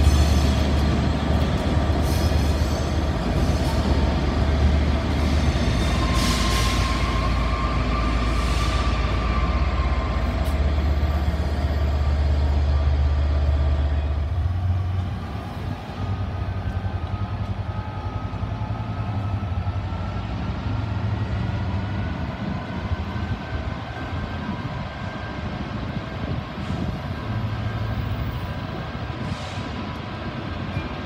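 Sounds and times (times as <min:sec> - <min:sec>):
train deep hum: 0:00.0 - 0:31.0.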